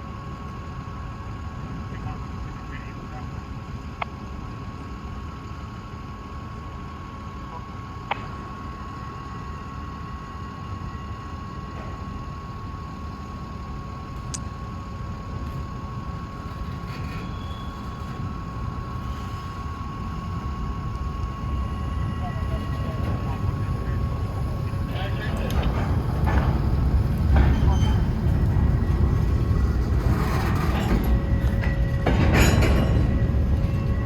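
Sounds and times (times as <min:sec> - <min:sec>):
distant freight train rumble: 0:00.2 - 0:34.0.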